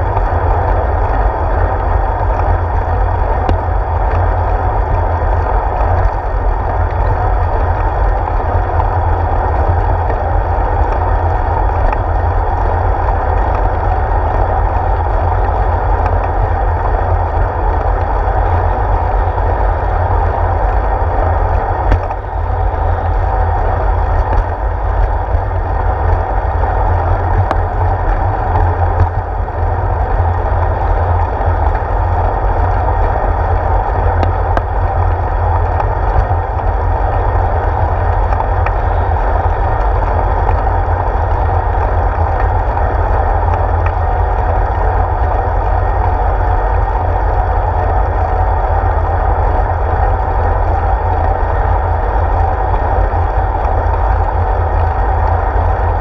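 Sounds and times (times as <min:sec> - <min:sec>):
wind rumble while cycling: 0:00.0 - 0:56.0.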